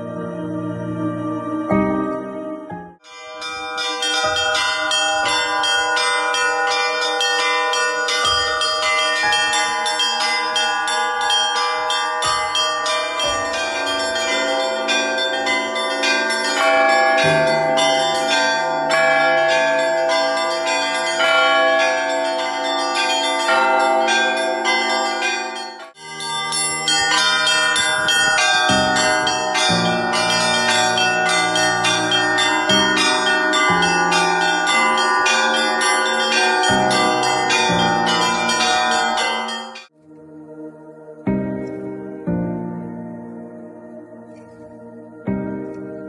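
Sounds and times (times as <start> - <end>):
deep bell ringing: 3.0 - 39.9
small high bells chiming: 3.0 - 39.9
larger lower bells ringing: 3.0 - 40.0.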